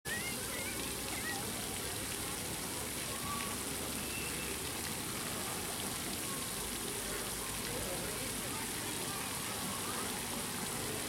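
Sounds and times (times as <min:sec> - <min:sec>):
fountain water pattering on pond: 0:00.1 - 0:11.0.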